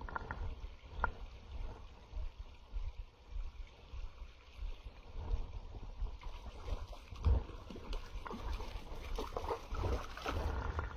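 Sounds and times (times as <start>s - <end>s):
small stream rushing: 0.0s - 10.9s.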